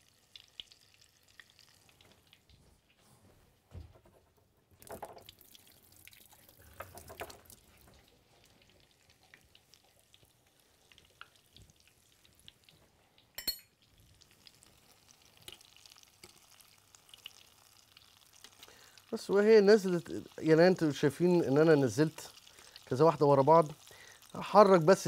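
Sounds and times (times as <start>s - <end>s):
batter frying in hot oil: 0.0s - 2.6s, 4.8s - 25.0s.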